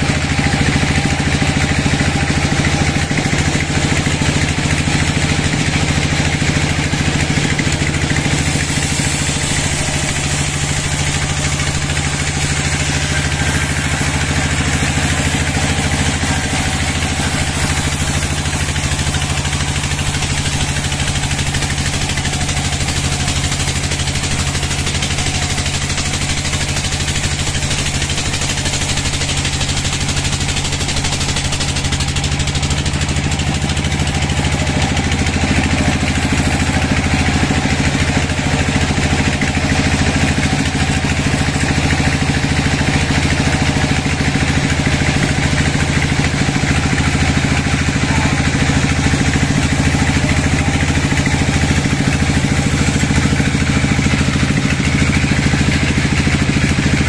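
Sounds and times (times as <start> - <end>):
saw blade rasping through log: 0.0 - 57.0
sawmill machine hum: 0.0 - 57.0.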